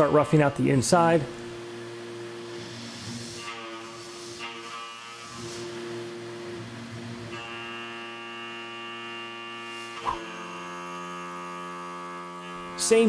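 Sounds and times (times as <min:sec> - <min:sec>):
milling machine cutter whine: 0:00.0 - 0:13.0.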